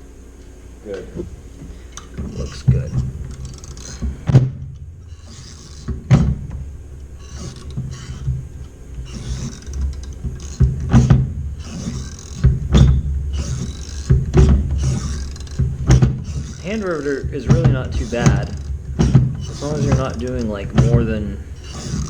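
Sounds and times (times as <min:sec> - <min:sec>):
rivet mandrels snapping: 0:01.6 - 0:22.0.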